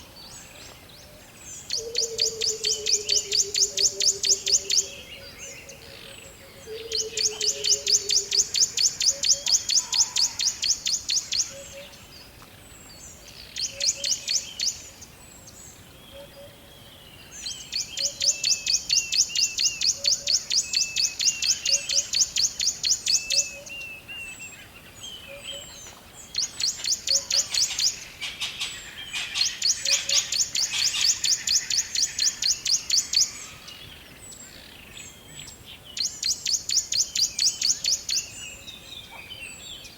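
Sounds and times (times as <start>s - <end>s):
birds chirping and calling: 1.4s - 12.0s, 17.4s - 39.9s.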